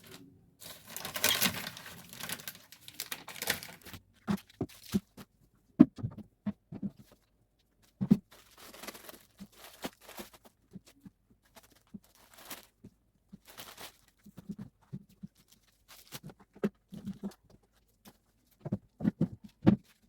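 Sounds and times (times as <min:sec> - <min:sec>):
rustling and crinkling: 0:00.0 - 0:05.4, 0:06.0 - 0:20.0.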